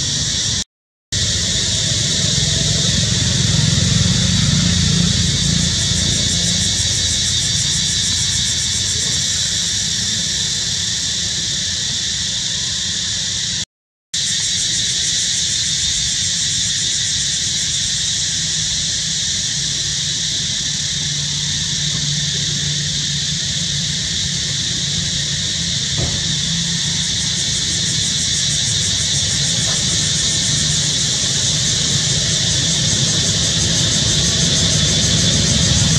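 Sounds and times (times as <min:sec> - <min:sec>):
cicada chorus droning: 0:00.0 - 0:13.6, 0:14.2 - 0:35.9.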